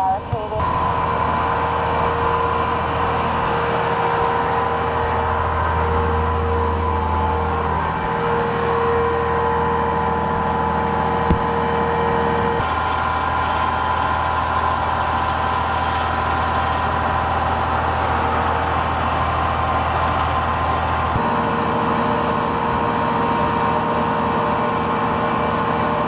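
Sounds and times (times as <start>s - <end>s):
heavy vehicle engine idling: 0.0s - 26.0s
steady tones: 0.0s - 26.0s.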